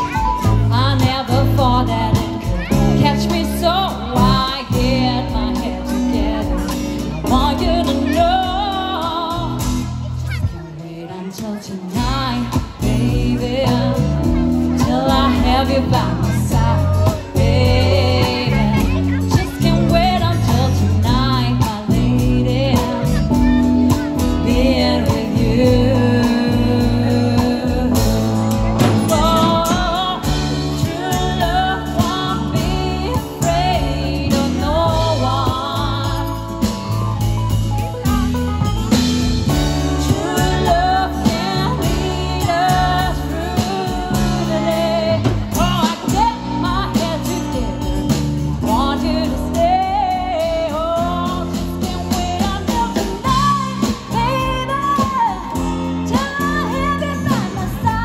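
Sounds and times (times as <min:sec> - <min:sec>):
female vocals: 0:00.0 - 0:37.5, 0:39.5 - 0:58.0
acoustic guitar: 0:00.0 - 0:58.0
bass: 0:00.0 - 0:58.0
drums: 0:00.0 - 0:58.0
keyboard: 0:00.0 - 0:58.0.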